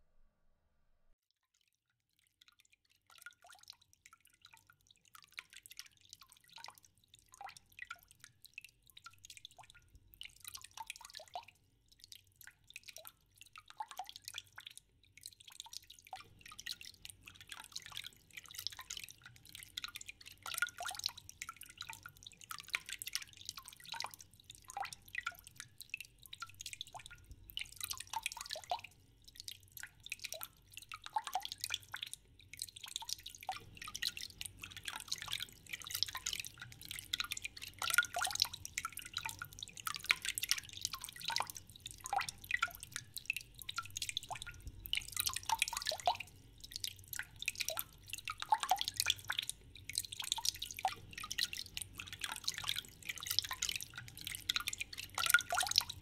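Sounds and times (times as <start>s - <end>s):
water dripping and splashing: 1.5s - 56.0s.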